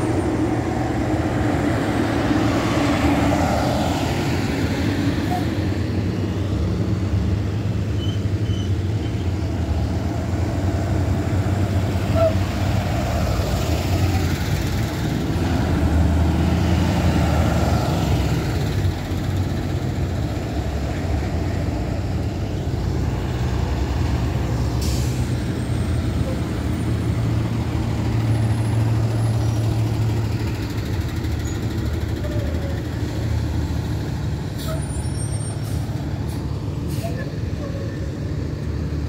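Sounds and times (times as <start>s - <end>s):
school buses driving past: 0.0s - 39.0s.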